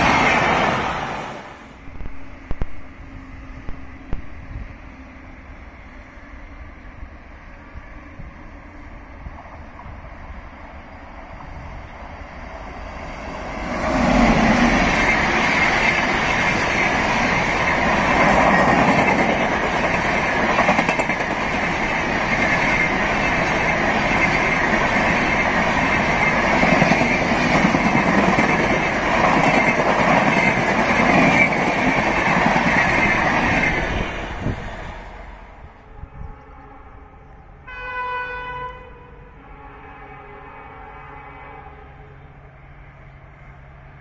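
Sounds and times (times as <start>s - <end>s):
train wheels rumbling on rail: 0.0s - 37.8s.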